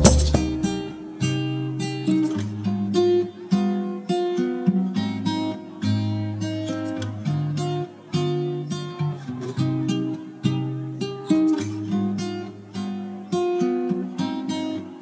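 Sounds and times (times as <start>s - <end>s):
acoustic guitar melody: 0.0s - 15.0s.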